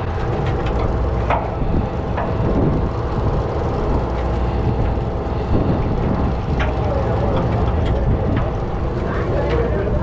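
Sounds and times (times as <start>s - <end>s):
faint steady hum: 0.0s - 10.0s
low rumbling machinery drone: 0.0s - 10.0s.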